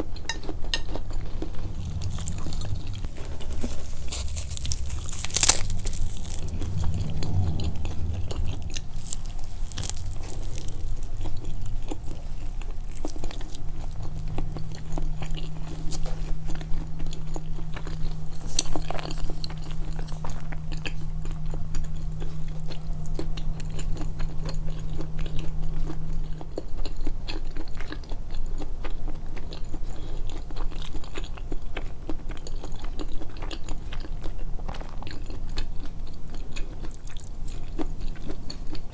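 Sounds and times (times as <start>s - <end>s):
chewing and crunching food: 0.0s - 38.9s
faint low hum: 0.0s - 38.9s.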